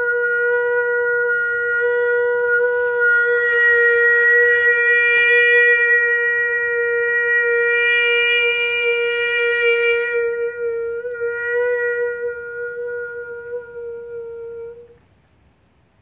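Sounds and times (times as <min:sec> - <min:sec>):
man holding a long high tone: 0:00.0 - 0:15.1.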